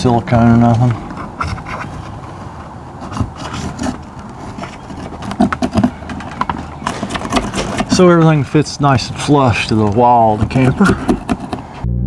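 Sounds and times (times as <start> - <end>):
sealant scraping: 0.0 - 11.8.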